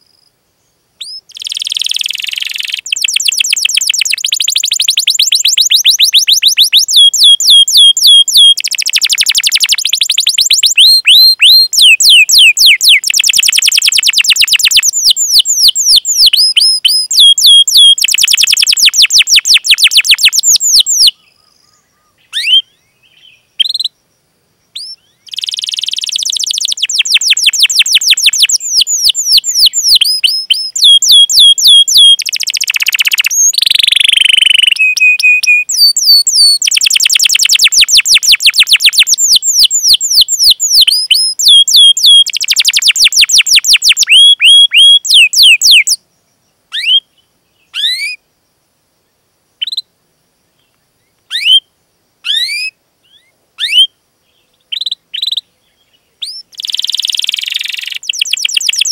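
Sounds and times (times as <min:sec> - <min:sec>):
canary singing trills: 0:01.0 - 0:24.0, 0:24.7 - 0:46.0, 0:46.7 - 0:48.2, 0:49.6 - 0:49.9, 0:50.6 - 0:58.9.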